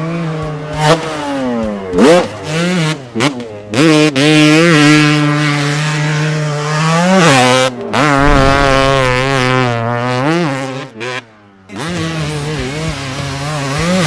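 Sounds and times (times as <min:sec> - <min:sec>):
dirt bike engine revving: 0:01.2 - 0:14.0.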